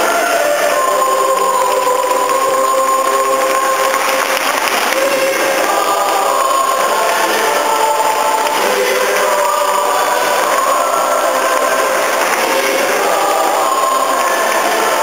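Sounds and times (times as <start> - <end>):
solemn music of held chords: 0.0 - 15.0.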